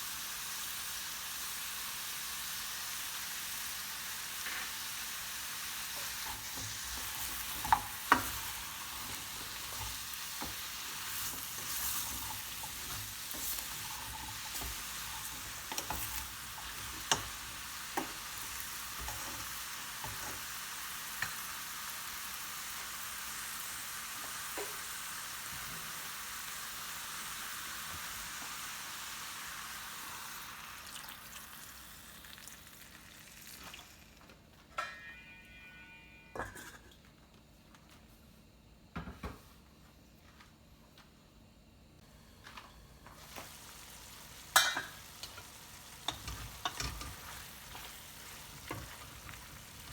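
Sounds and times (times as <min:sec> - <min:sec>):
food sizzling in oil: 0:00.0 - 0:34.2, 0:43.0 - 0:49.9.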